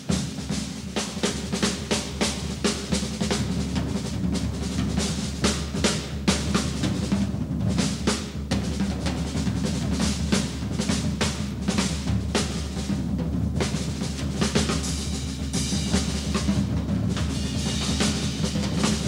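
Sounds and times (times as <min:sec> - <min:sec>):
jazz drum solo: 0:00.0 - 0:19.0.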